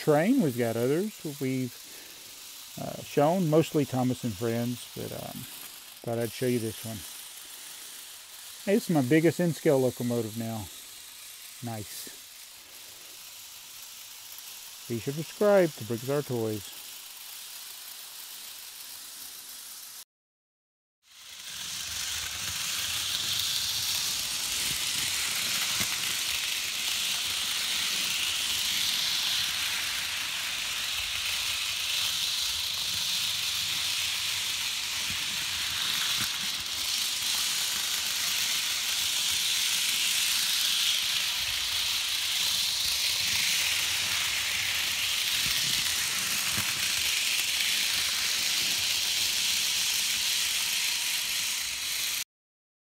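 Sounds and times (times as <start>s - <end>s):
model train motor whirring on rails: 0.0s - 20.0s, 21.0s - 52.2s.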